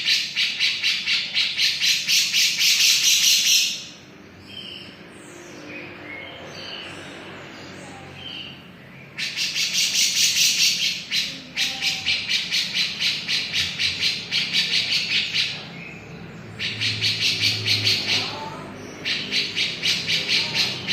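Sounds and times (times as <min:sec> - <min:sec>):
bird harsh chattering: 0:00.0 - 0:04.9, 0:08.1 - 0:20.9.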